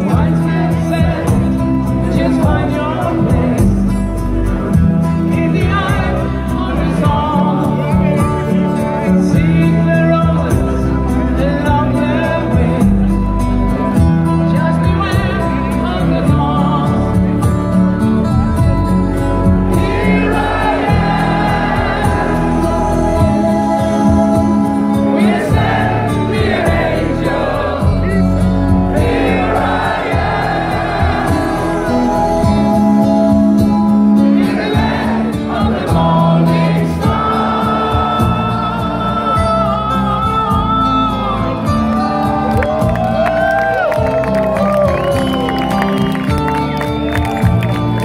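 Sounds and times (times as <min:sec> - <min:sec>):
crowd singing along: 0:00.0 - 0:17.6, 0:19.2 - 0:42.6
male lead vocal: 0:00.0 - 0:18.6, 0:19.2 - 0:43.2
rock power ballad over pa: 0:00.0 - 0:48.0.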